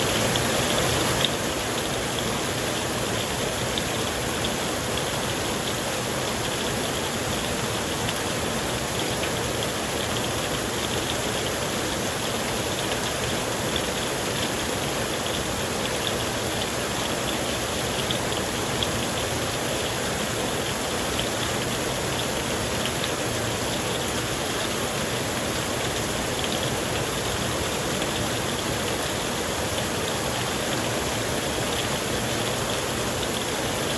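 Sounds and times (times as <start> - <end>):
heavy rain on a tent: 0.0 - 33.9.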